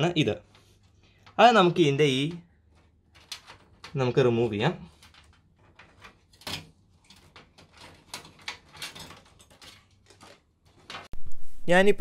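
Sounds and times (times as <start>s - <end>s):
cables rustling and knocking: 0.0s - 11.2s.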